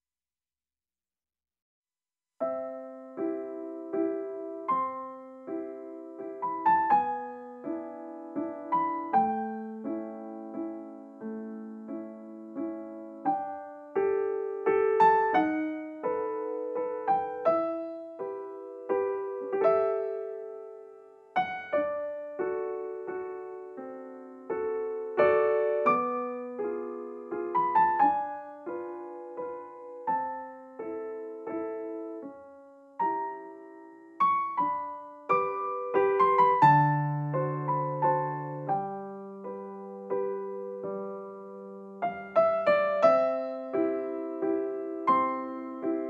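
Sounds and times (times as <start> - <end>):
gentle piano music: 2.4 - 46.0.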